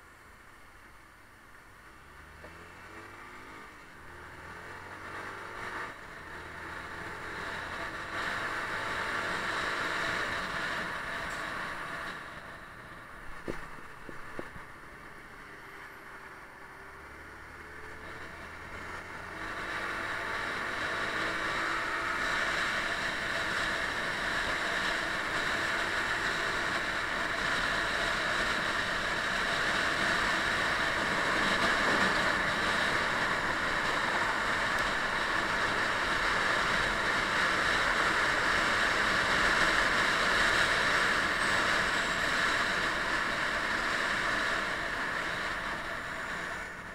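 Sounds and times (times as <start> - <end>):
motorcycle engine: 2.1 - 46.9.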